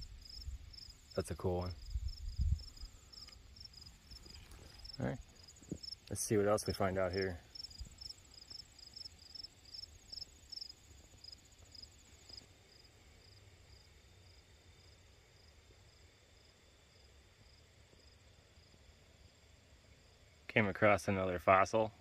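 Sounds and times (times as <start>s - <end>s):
insect chirping: 0.0s - 20.5s.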